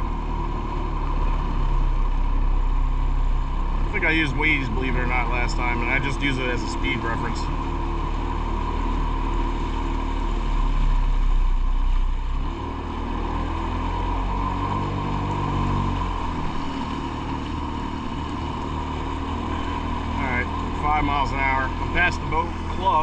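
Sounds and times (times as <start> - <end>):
personal watercraft engine running: 0.0 - 23.0.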